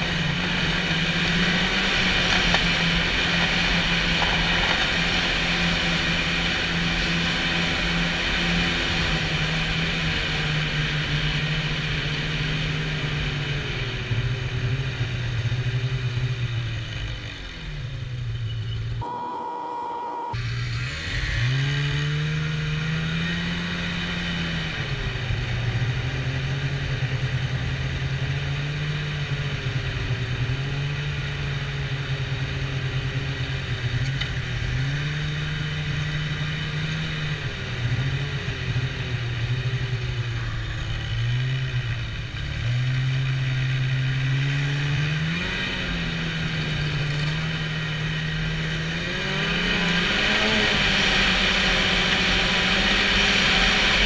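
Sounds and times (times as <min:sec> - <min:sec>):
snowmobile engine running: 0:00.0 - 0:17.4, 0:22.6 - 0:54.0.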